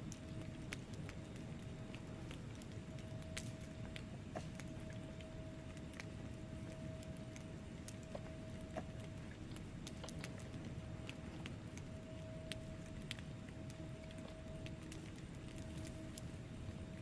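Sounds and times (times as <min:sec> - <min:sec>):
faint steady tone: 0:00.0 - 0:17.0
logs crackling and popping: 0:00.0 - 0:17.0
low rumble of flames: 0:00.0 - 0:17.0.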